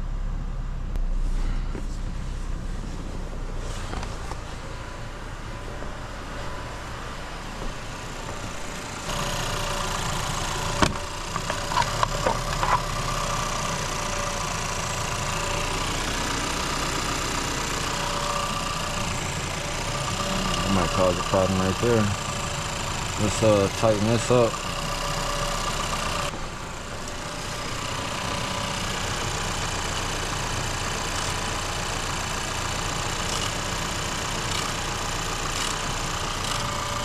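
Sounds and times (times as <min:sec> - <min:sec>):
car engine idling: 0:00.0 - 0:37.0
loud steady hum: 0:00.0 - 0:37.0.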